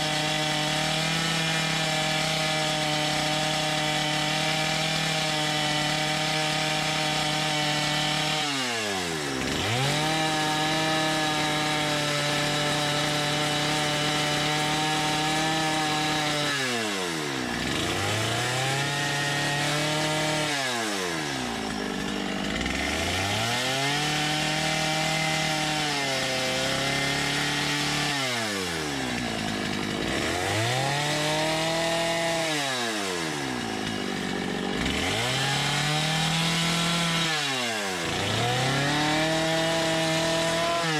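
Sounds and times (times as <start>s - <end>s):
chainsaw revving in wood: 0.0s - 40.9s.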